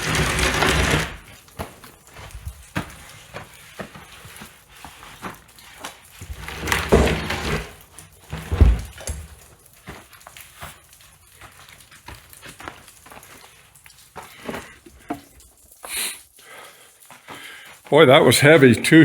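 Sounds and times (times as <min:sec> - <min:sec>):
knocks and steps on wood: 0:00.0 - 0:15.7
wood scraping and shuffling: 0:00.0 - 0:16.0.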